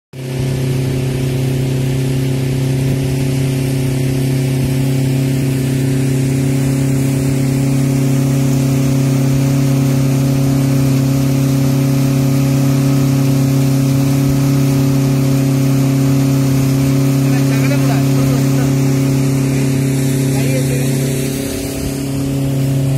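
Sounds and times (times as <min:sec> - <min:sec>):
outboard motor running: 0:00.1 - 0:22.9
water churning hiss: 0:00.8 - 0:22.9.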